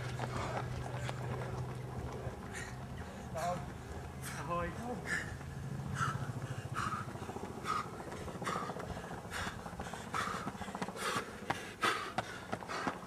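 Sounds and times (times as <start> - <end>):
person breathing hard: 0.0 - 1.4, 2.4 - 13.0.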